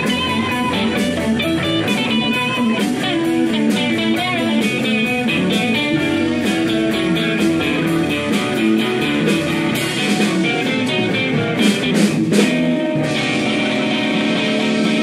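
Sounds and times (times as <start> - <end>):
bass guitar: 0.0 - 15.0
drums: 0.0 - 15.0
electric guitar lead: 0.0 - 15.0.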